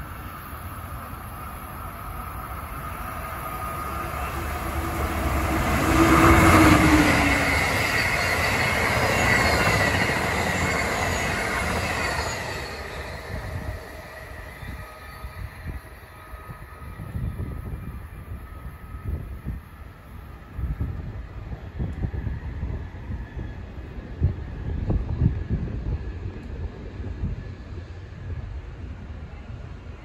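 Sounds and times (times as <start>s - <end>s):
train passing at speed: 0.0s - 30.0s
train wheels rushing: 0.0s - 30.0s.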